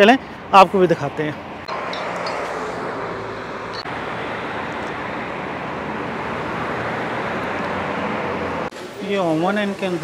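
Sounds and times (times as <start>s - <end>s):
busy street traffic: 0.0s - 10.0s.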